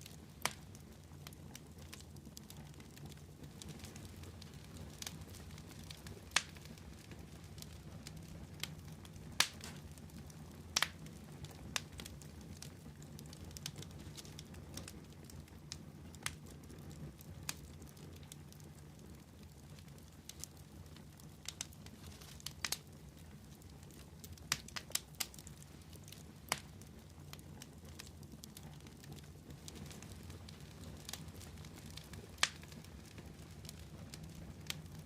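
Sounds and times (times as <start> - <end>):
fire crackles and pops: 0.0 - 35.0
wood fire rumbling: 0.0 - 35.0.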